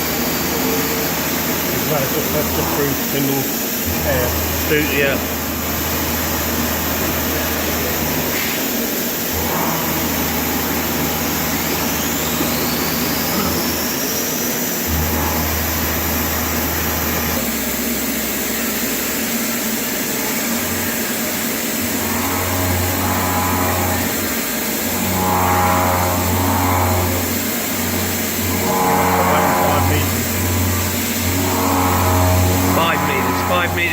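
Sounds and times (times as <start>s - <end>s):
machine whine: 0.0s - 33.9s
milling machine cutting metal: 0.0s - 33.9s
air hissing: 0.1s - 33.9s.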